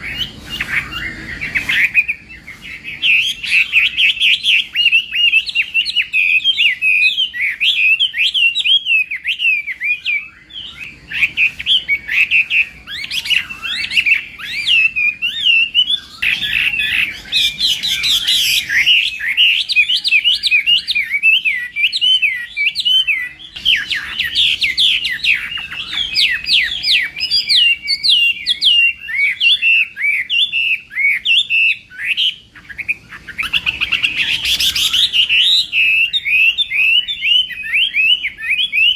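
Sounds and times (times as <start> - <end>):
bird warbling song: 0.0 - 38.9.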